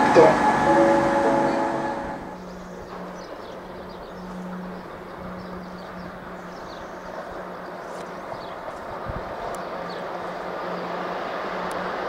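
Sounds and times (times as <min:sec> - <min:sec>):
birds chirping: 0:00.0 - 0:11.7
electric locomotive hum: 0:00.0 - 0:12.0
train rolling: 0:00.0 - 0:12.0.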